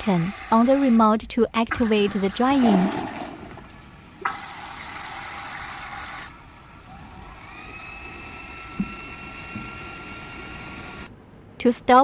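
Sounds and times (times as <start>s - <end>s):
fan motor whine: 0.0s - 11.2s.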